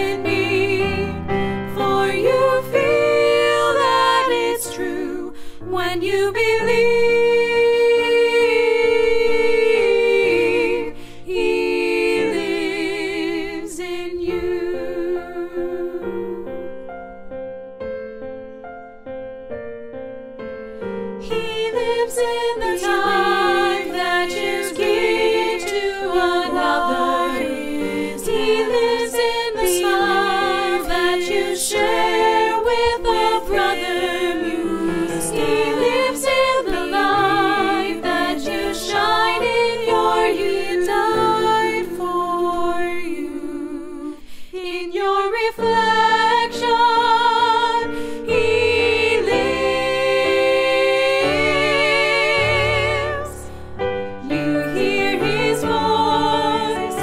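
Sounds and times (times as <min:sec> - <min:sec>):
voices singing in harmony: 0:00.0 - 0:16.9, 0:20.8 - 0:57.0.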